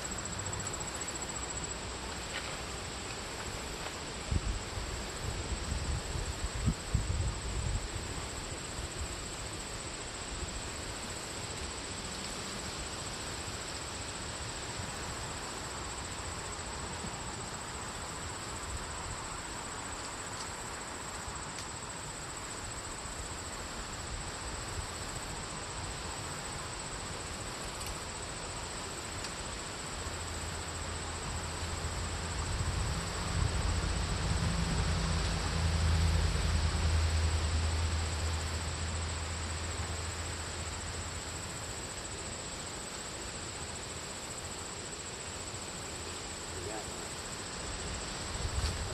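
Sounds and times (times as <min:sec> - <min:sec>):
constant hiss: 0:00.0 - 0:48.9
crickets chirping: 0:00.0 - 0:48.9.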